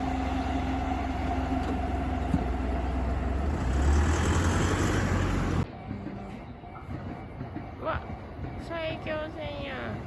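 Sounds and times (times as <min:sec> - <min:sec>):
train passing: 0:00.0 - 0:10.0.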